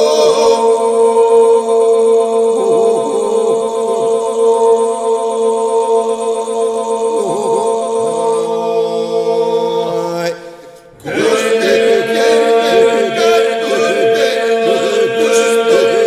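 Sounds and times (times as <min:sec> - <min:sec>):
ornamented lead voices singing: 0:00.0 - 0:16.0.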